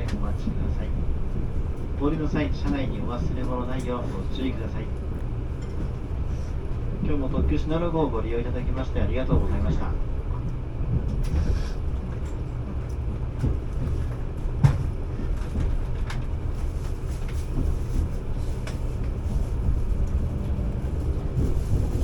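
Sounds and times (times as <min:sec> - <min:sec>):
train car low rumble: 0:00.0 - 0:22.0.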